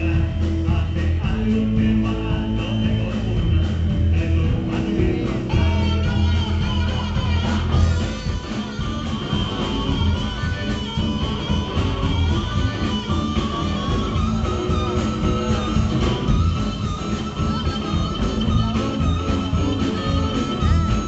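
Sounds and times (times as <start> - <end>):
blues-rock band playing: 0.0 - 21.0
electric guitar: 0.0 - 21.0.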